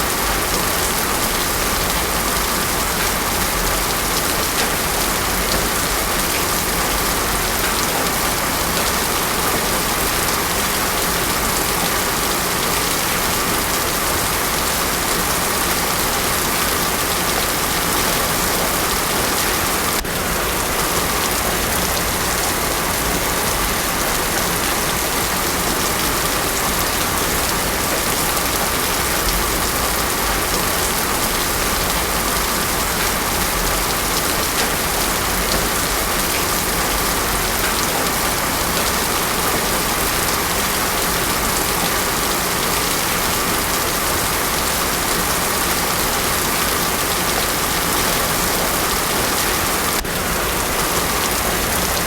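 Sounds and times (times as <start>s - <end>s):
heavy rain on a road: 0.0s - 52.0s.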